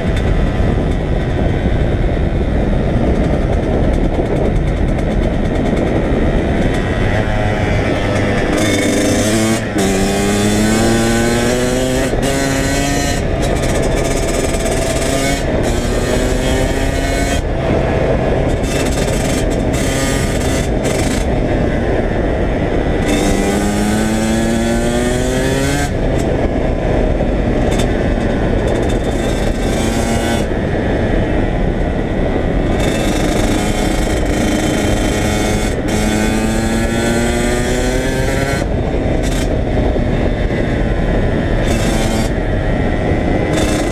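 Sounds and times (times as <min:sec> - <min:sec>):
dirt bike engine revving: 0:05.2 - 0:26.4, 0:27.6 - 0:31.7, 0:32.6 - 0:43.9.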